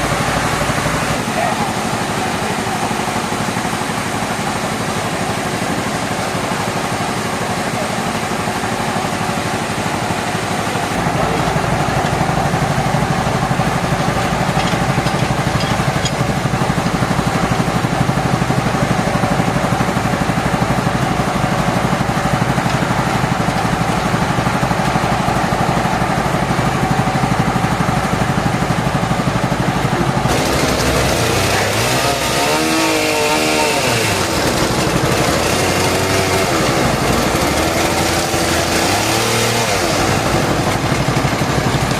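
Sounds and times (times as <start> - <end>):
sawmill machinery engine drone: 0.0 - 41.9.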